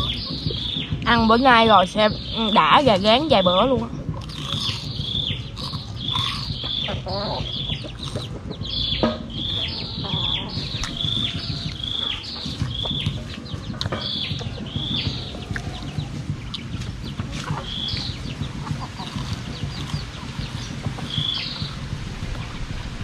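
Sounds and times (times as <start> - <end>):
chick peeping: 0.0 - 22.8.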